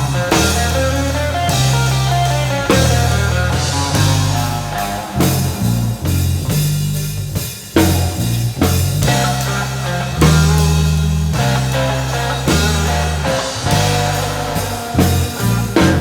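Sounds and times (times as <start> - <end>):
bass line: 0.0 - 16.0
drum kit with bass drum: 0.0 - 16.0
electric guitar: 0.0 - 16.0
rock band playing: 0.0 - 16.0.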